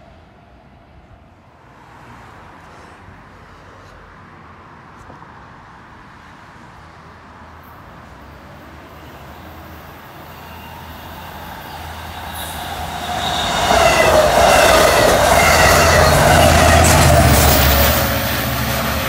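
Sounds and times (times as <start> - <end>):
train rumble and wheel noise: 0.0 - 19.0.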